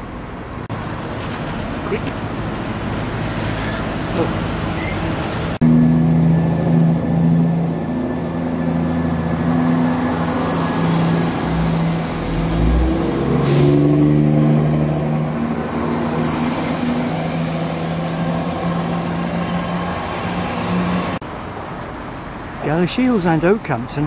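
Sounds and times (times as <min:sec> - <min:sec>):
train diesel engines running: 0:00.0 - 0:24.0.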